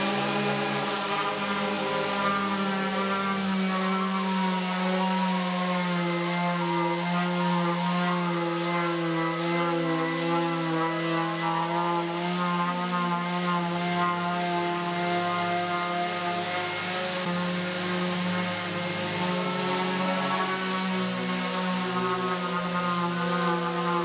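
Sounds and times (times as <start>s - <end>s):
orbital sander humming: 0.0s - 24.0s.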